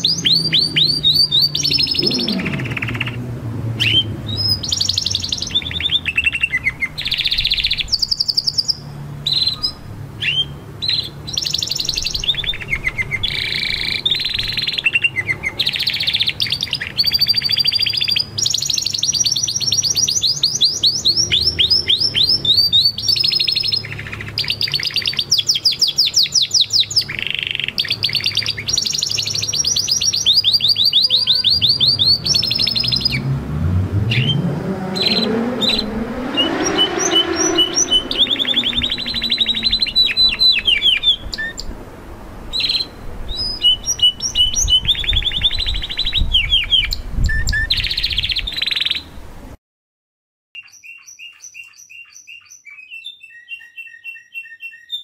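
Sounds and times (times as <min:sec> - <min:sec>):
canary singing trills: 0:00.0 - 0:33.4, 0:34.0 - 0:41.8, 0:42.5 - 0:49.1, 0:50.6 - 0:55.0.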